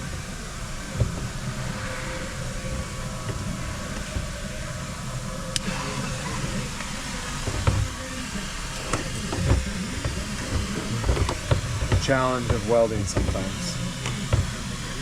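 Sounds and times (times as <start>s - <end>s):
welding torch hissing: 0.0s - 15.0s.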